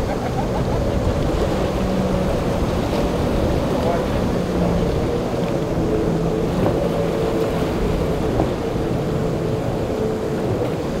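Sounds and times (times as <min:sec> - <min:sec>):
jet boat engine drone: 0:00.0 - 0:11.0
wind and water rushing: 0:00.0 - 0:11.0.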